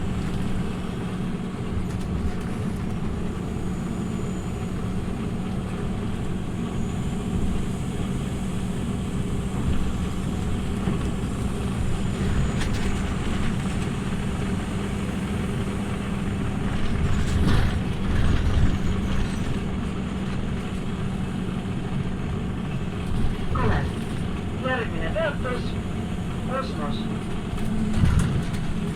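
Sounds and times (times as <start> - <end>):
bus engine drone: 0.0 - 28.9
road noise: 0.0 - 28.9.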